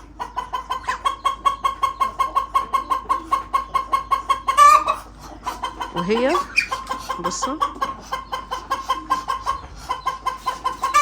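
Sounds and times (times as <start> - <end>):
chicken clucking rapidly: 0.0 - 11.0
chicken squawk: 0.0 - 11.0.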